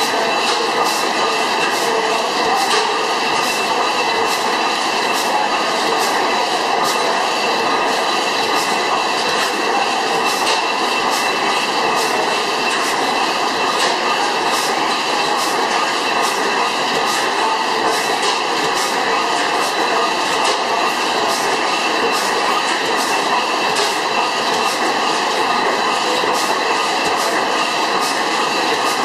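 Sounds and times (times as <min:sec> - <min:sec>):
stationary gas engine clattering: 0:00.0 - 0:29.0.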